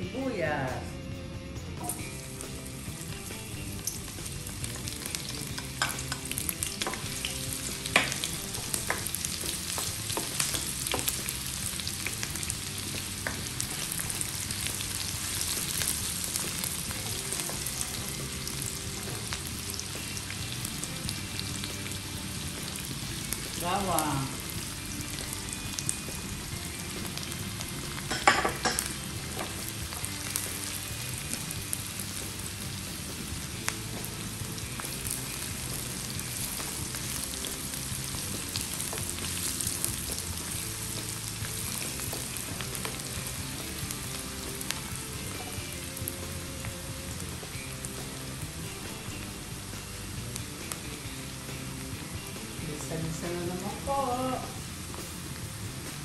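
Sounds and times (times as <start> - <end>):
onion sizzling in oil: 1.7 - 56.0.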